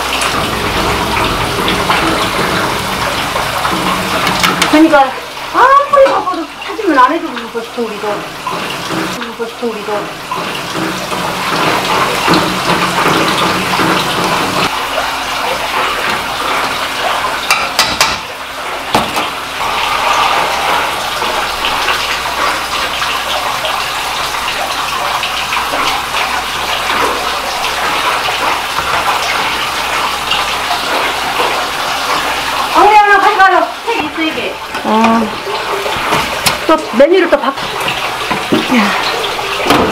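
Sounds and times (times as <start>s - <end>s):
running and splashing water: 0.0s - 39.9s.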